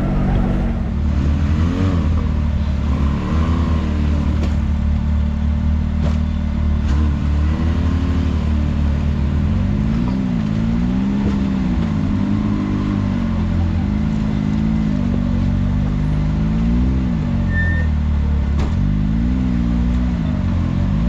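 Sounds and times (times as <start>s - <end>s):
engine revving on trail: 0.0s - 21.0s.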